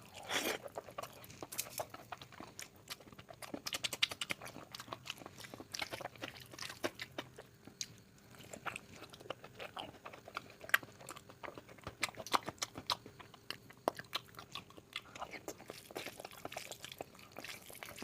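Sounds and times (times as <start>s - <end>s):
wet chewing and lip smacks: 0.2s - 18.0s.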